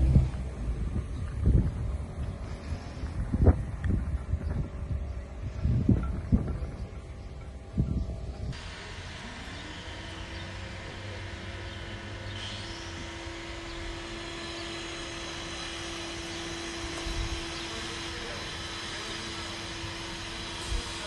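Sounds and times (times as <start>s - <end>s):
distant engine drone: 0.0s - 21.0s.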